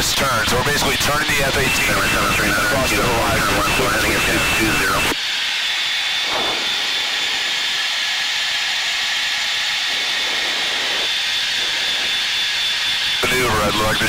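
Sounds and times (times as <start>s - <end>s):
jet cockpit hiss with high whine: 0.0s - 14.0s.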